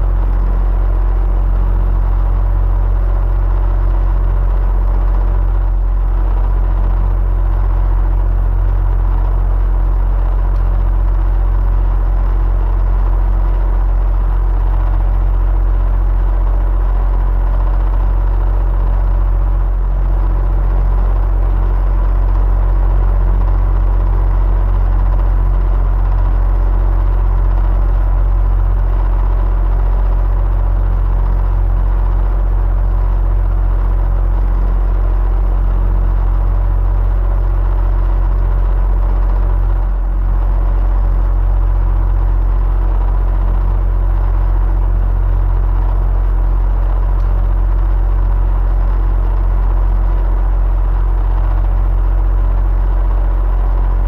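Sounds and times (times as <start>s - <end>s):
faint motor hum: 0.0s - 54.0s.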